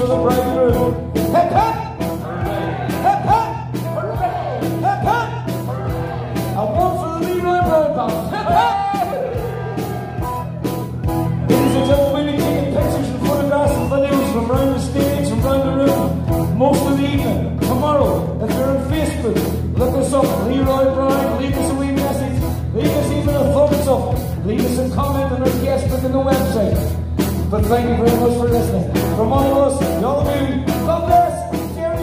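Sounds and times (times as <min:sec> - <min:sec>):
live band playing: 0:00.0 - 0:32.0
steady drum beat: 0:00.0 - 0:32.0.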